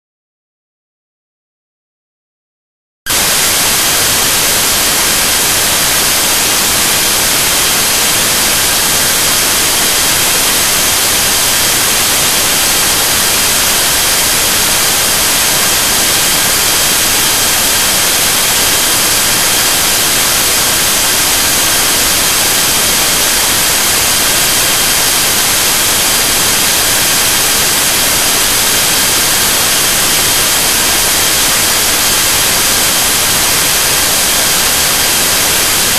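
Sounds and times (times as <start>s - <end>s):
loud static hiss: 3.1s - 35.9s.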